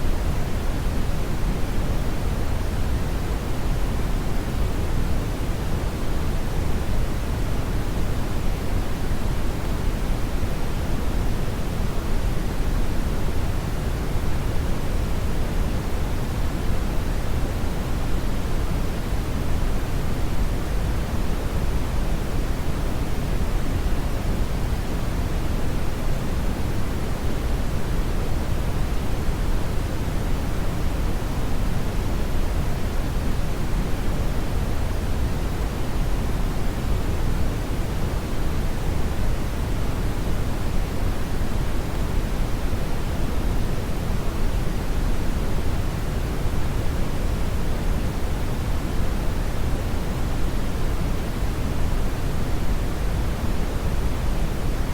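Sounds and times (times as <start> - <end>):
steady brown noise: 0.0 - 54.9.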